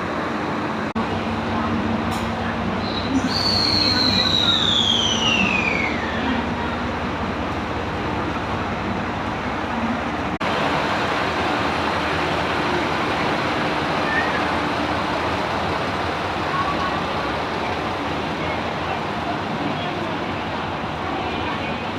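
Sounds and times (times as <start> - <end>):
train running: 0.0 - 21.9.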